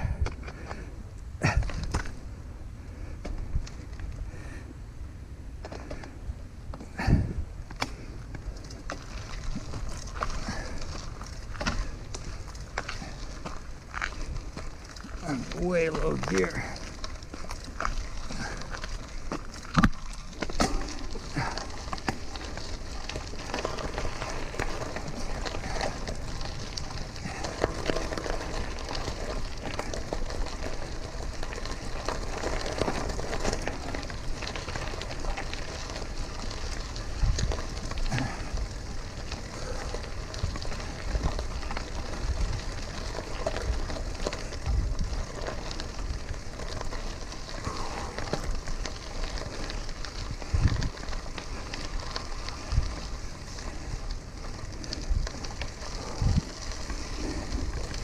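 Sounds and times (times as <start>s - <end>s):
bicycle tyres hissing on road: 0.0s - 58.0s.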